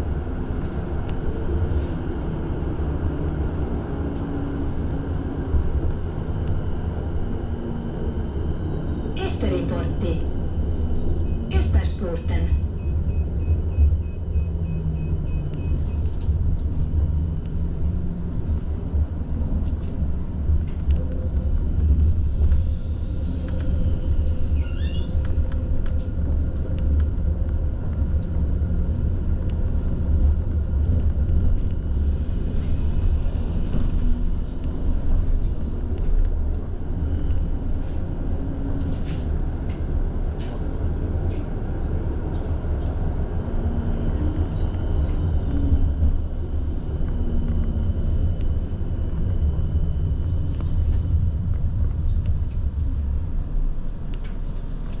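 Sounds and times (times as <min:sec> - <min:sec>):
tram rumbling on rails: 0:00.0 - 0:55.0.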